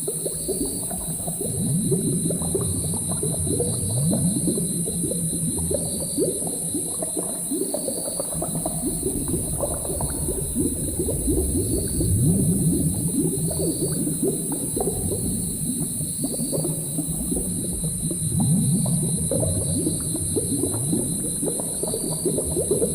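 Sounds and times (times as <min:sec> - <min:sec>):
liquid bubbling at a simmer: 0:00.0 - 0:22.9.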